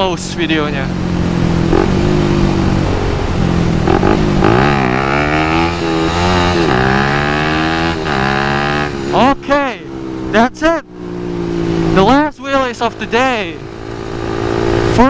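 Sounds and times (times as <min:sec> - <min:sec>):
motorcycle engine revving: 0:00.7 - 0:15.0.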